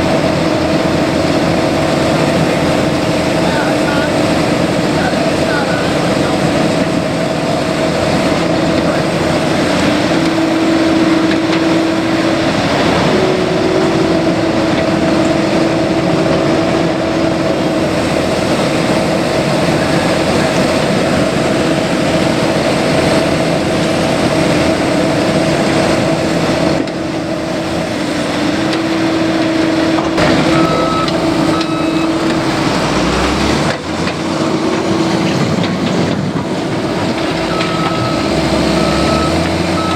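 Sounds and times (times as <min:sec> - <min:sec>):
excavator engine droning: 0:00.0 - 0:39.9.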